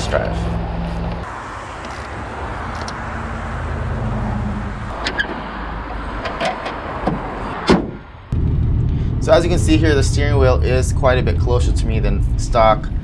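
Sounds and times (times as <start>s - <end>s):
motor vehicle engine hum: 0.0s - 13.0s.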